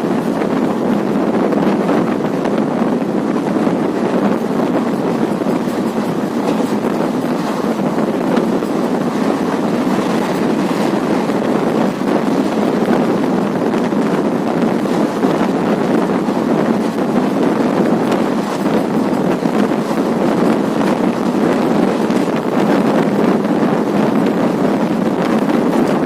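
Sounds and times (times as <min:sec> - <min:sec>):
passenger train running: 0:00.0 - 0:26.0
wind buffeting microphone: 0:00.0 - 0:26.0.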